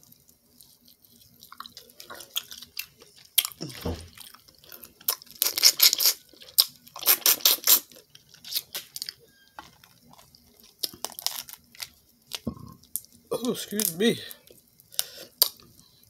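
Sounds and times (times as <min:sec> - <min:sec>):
wet chewing and lip-smacking: 0:00.0 - 0:09.2, 0:09.8 - 0:13.2, 0:14.5 - 0:15.8.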